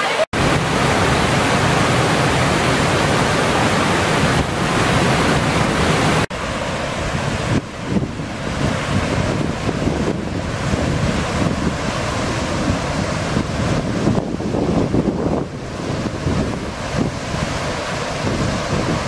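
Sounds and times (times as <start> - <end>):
stream rushing over boulders: 0.0 - 19.0.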